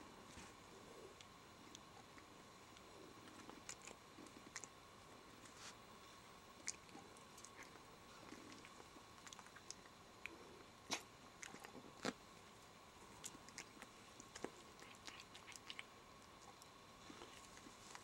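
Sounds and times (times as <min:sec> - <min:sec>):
cat chewing with crunching clicks: 0:00.8 - 0:18.0.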